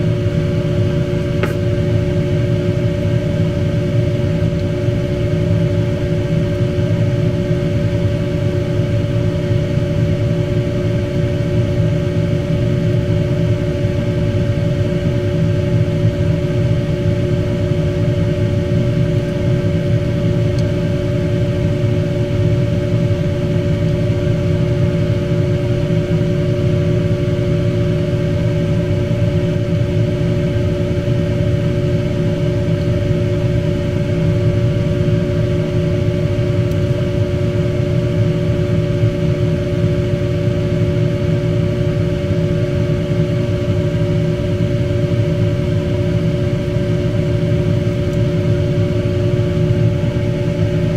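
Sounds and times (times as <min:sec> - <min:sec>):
mechanical hum: 0:00.0 - 0:50.9.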